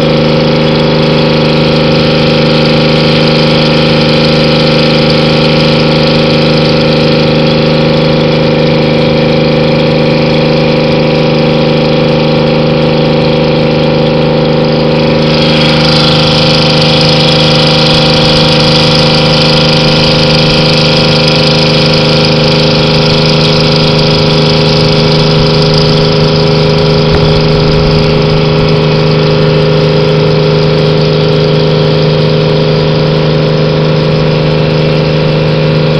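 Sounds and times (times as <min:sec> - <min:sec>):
boat engine droning: 0:00.0 - 0:35.9.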